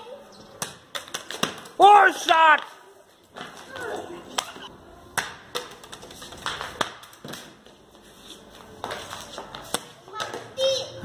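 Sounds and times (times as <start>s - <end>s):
ball and bat striking pavement: 0.4s - 10.7s.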